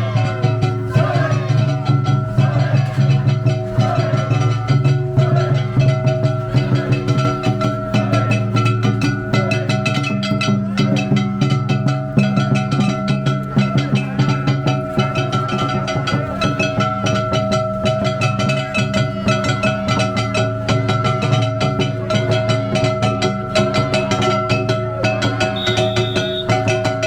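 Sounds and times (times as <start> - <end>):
rapid drum and percussion strikes: 0.0 - 27.0.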